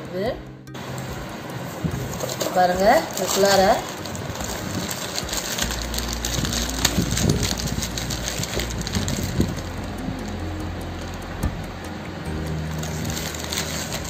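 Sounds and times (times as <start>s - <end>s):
steady low hum: 0.0s - 14.0s
plastic bag crinkling: 0.9s - 11.2s, 12.5s - 14.0s.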